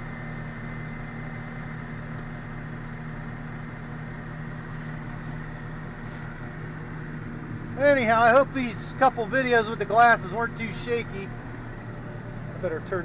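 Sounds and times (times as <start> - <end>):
combine harvester engine drone: 0.0 - 13.0
faint steady whine: 0.0 - 13.0.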